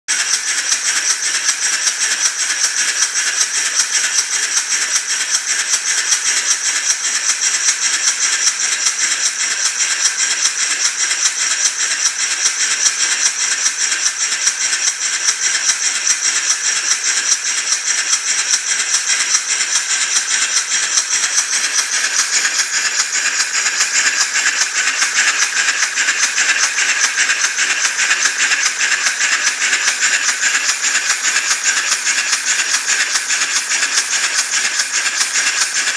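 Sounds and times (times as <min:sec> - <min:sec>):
steam engine chuffing and hissing: 0:00.1 - 0:35.9.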